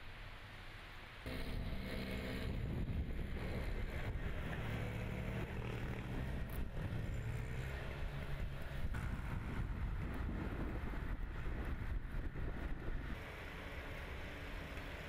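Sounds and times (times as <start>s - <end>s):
snowblower engine running: 1.3s - 15.0s.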